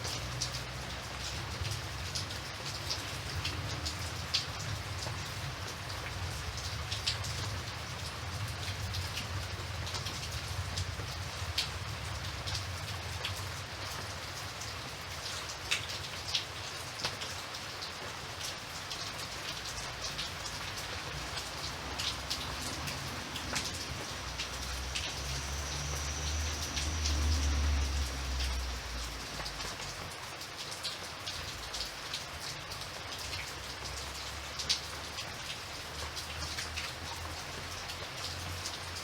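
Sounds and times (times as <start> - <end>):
raindrops ticking on a surface: 0.0 - 39.0
steady rain falling: 0.0 - 39.0.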